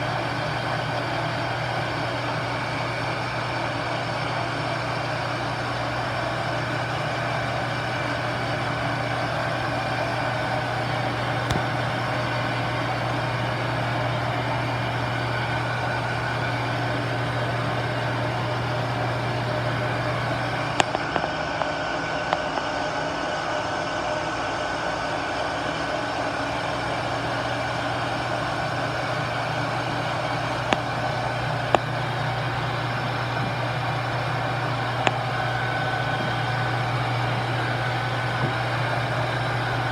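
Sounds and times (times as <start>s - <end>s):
metal lathe running: 0.0s - 39.9s.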